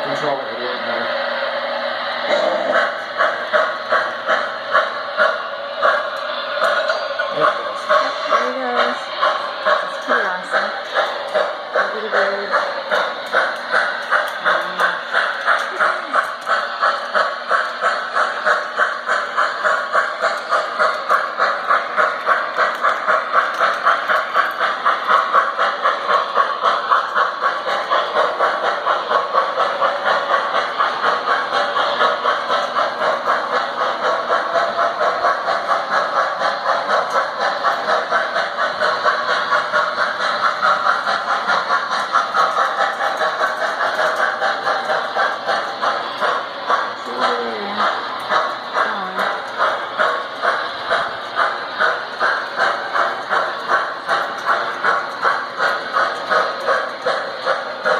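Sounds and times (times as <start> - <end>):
model train clattering on track: 0.0 - 57.9.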